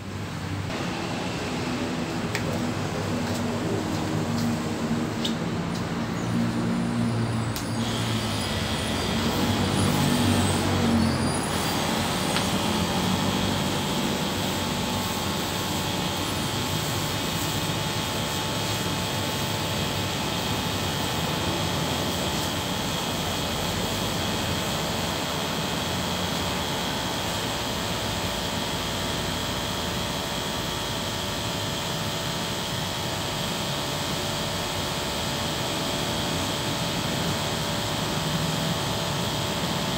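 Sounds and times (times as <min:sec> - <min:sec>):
sprayer pump motor drone: 0:00.7 - 0:39.9.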